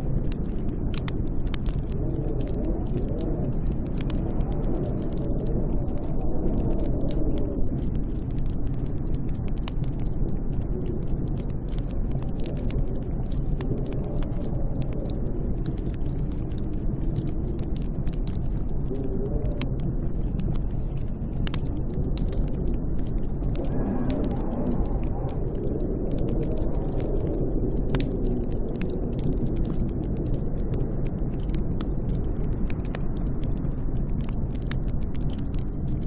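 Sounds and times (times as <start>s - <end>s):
howling storm wind: 0.0s - 36.0s
small sharp ticks: 0.2s - 36.0s.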